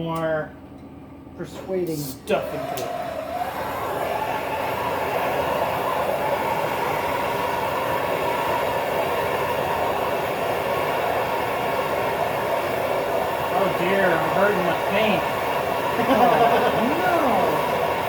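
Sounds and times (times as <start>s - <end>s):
gas torch flame hissing: 1.4s - 18.0s.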